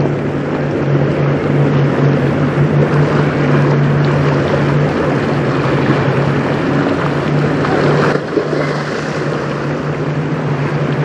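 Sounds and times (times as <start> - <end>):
choppy river water: 0.0 - 11.0
low engine hum: 0.0 - 11.0
wind rushing over microphone: 0.0 - 11.0.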